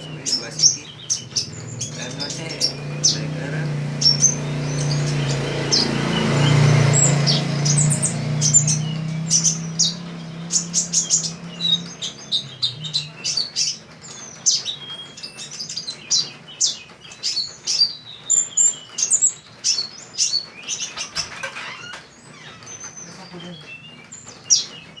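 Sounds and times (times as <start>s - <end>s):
bird chirping and trilling: 0.0s - 25.0s.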